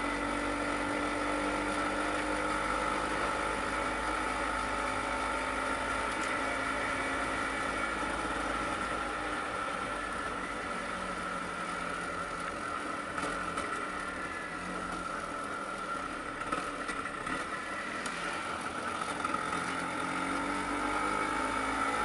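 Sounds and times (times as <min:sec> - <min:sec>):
scooter two-stroke engine running: 0:00.0 - 0:22.0.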